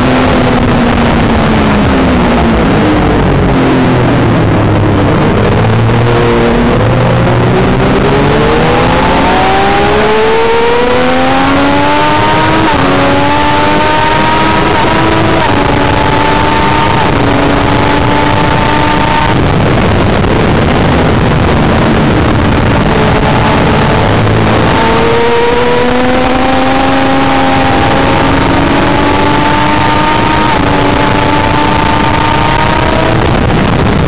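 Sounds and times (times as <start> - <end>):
motorcycle engine accelerating: 0.0 - 34.0
wind and road rush: 0.0 - 34.0.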